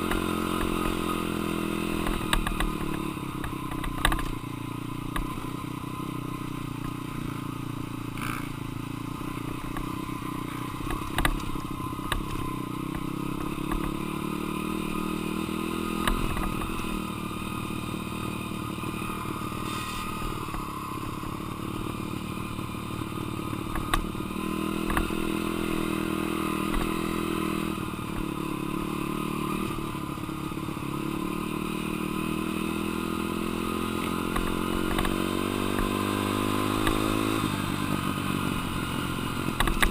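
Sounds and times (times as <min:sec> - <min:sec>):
dirt bike engine revving: 0:00.0 - 0:04.4, 0:07.0 - 0:39.9.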